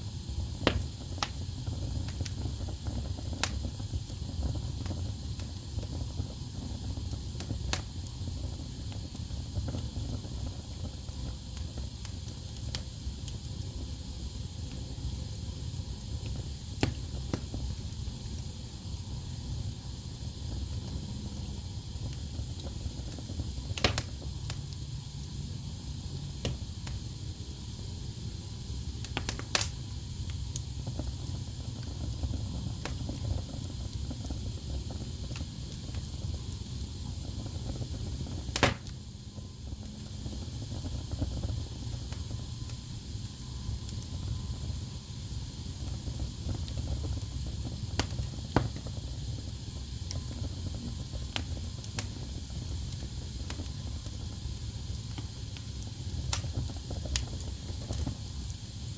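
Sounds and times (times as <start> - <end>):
wood fire burning: 0.0 - 58.9.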